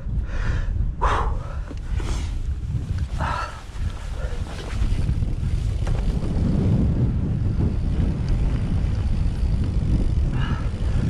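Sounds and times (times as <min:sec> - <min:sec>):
wind buffeting microphone: 0:00.0 - 0:11.0
bike tyres on grass: 0:01.4 - 0:11.0.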